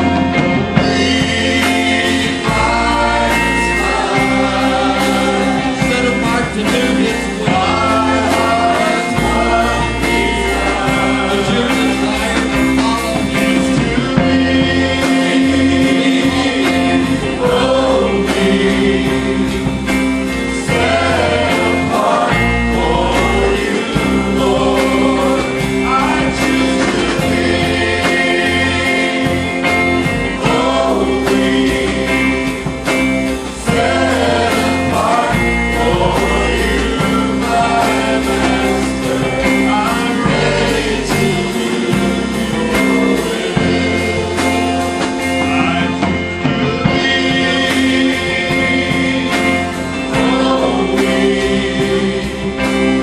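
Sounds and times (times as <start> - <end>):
people singing together: 0.0 - 53.0
worship band playing: 0.0 - 53.0.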